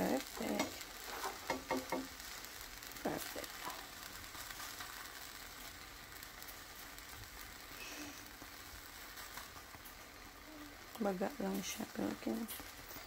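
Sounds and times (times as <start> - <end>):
pancake batter sizzling: 0.0 - 13.0
spatula under pancake: 0.0 - 13.0.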